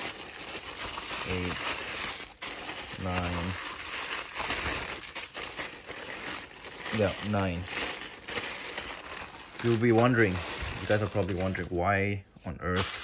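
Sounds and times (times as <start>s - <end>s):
plastic crinkling and rustling: 0.0s - 12.0s, 12.6s - 13.0s.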